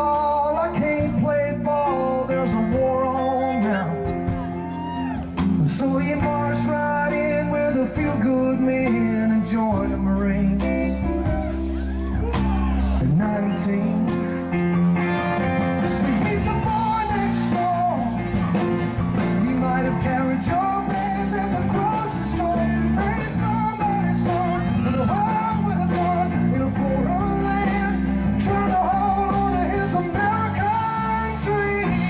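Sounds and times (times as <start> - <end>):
man singing into microphone: 0.0 - 4.2, 5.4 - 11.5, 13.0 - 14.6, 15.8 - 18.4, 19.2 - 32.0
backing music: 0.0 - 32.0
guitar: 0.0 - 32.0.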